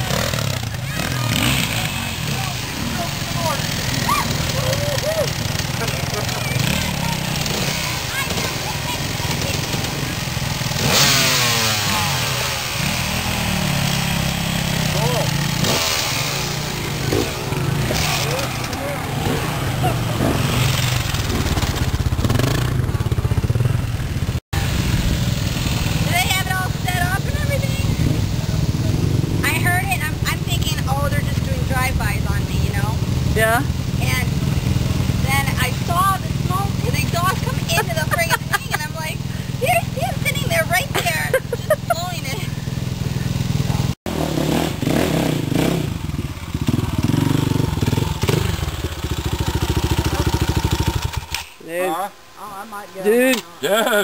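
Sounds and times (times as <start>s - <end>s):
motorcycle engine idling: 0.0s - 51.5s.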